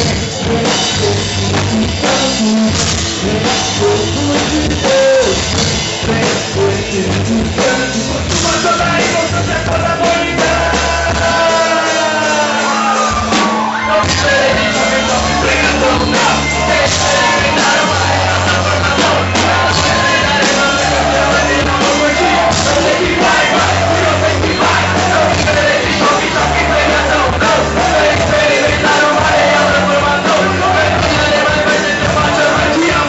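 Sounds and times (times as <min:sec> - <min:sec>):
live rock music: 0:00.0 - 0:33.0
voices singing and shouting: 0:00.0 - 0:33.0.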